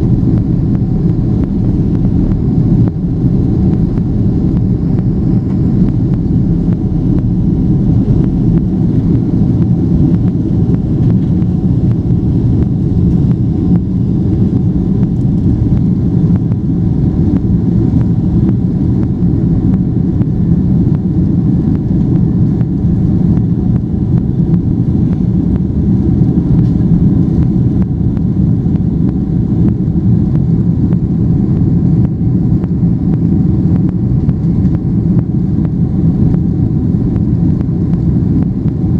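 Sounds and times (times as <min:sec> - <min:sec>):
jet engines rumbling on takeoff: 0:00.0 - 0:38.9.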